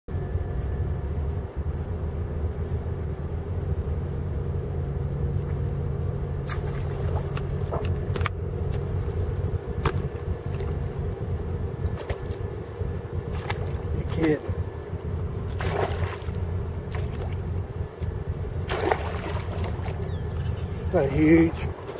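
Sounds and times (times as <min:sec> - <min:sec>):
boat engine idling: 0:00.2 - 0:21.9.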